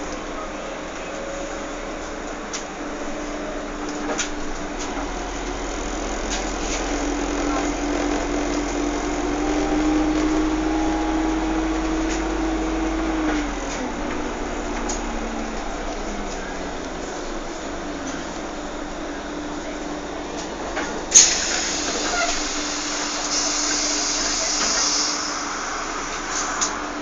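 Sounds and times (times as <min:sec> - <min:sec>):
vehicle motor hum: 0:00.0 - 0:27.0.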